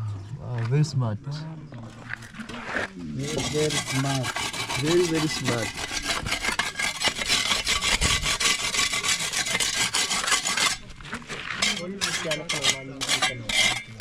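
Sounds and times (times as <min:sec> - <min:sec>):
tool scraping against masonry: 0:02.1 - 0:14.0.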